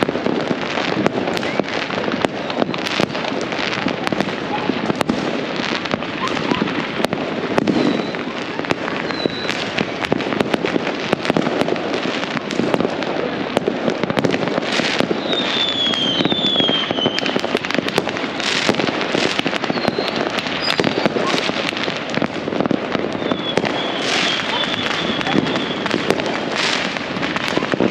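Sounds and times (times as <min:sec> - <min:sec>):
fireworks crackling and banging: 0:00.0 - 0:27.9
whistling rockets: 0:01.3 - 0:10.6, 0:14.2 - 0:27.9.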